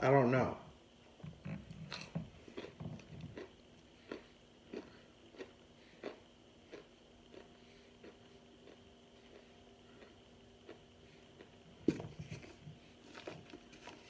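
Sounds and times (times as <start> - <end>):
person chewing crunchy food: 1.4 - 14.0.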